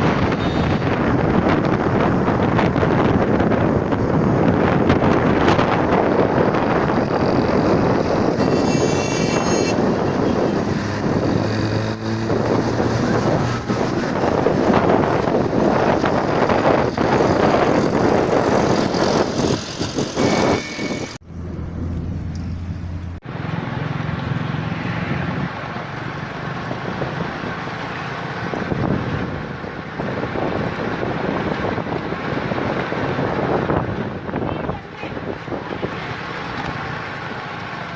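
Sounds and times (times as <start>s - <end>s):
wind buffeting microphone: 0.0s - 23.3s, 25.1s - 37.9s
road traffic: 0.0s - 37.9s.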